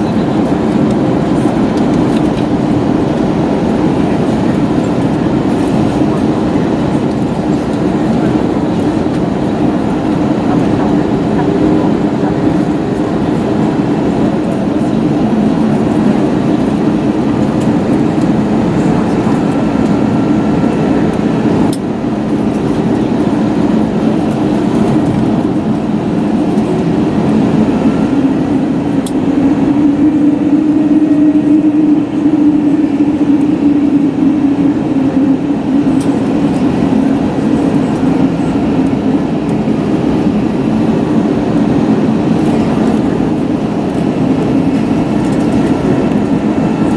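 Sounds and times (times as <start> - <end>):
jet engine cabin drone: 0.0 - 46.9.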